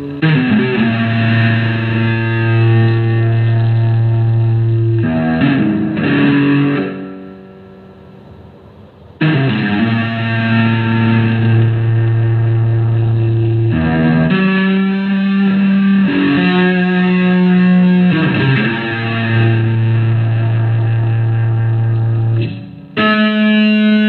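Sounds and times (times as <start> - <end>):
distorted electric guitar melody: 0.0 - 24.0.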